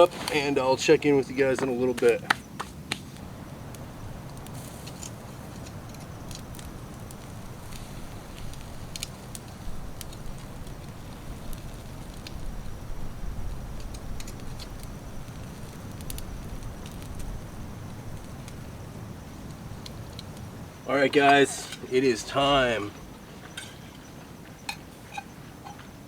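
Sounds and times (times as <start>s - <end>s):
grill fire crackling: 0.0s - 26.0s.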